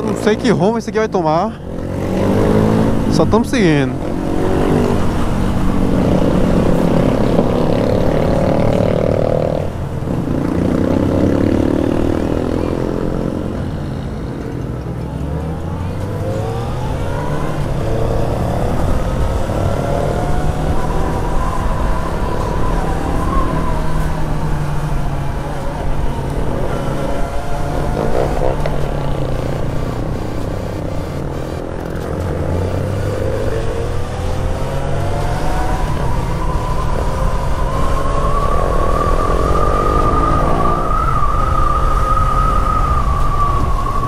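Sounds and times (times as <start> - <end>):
motorcycle engine revving: 1.5 - 42.4.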